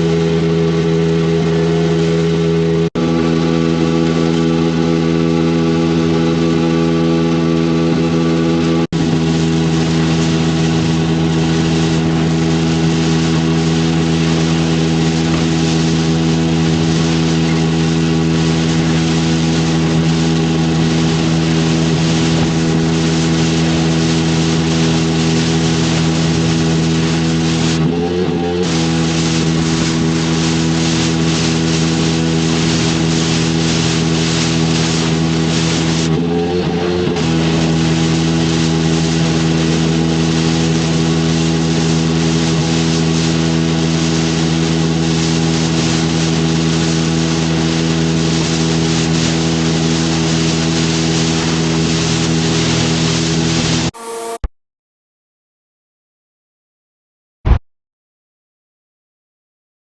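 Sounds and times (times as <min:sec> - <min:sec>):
pressure washer engine: 0:00.0 - 0:54.4.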